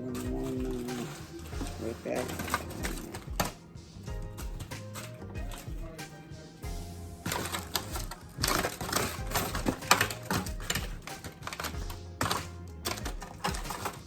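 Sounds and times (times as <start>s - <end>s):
background music with low beat: 0.0s - 14.0s
utensils clattering in a pan: 0.0s - 14.0s.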